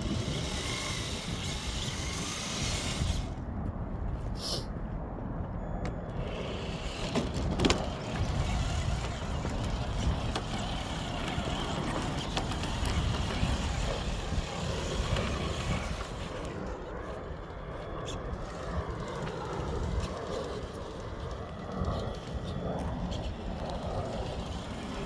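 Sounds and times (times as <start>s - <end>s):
toy car electric motor and gears: 0.0s - 3.4s, 6.1s - 17.4s, 18.2s - 25.0s
tyres crunching over ground: 0.0s - 25.0s.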